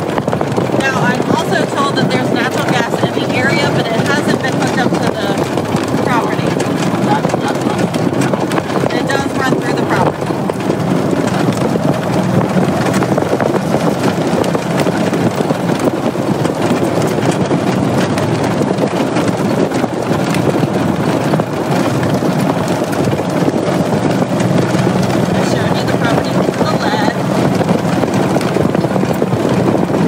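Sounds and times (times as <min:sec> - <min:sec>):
vehicle engine and tyre noise: 0:00.0 - 0:30.0
wind buffeting microphone: 0:00.0 - 0:30.0.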